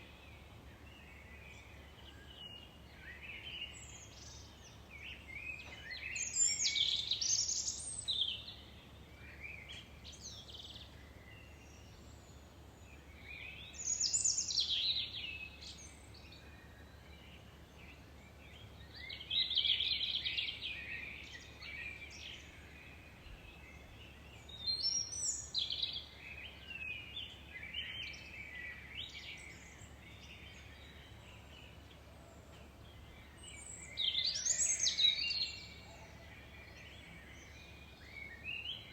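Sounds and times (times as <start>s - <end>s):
faint steady background hiss: 0.0s - 38.9s
songbirds chirping and trilling: 0.0s - 38.9s.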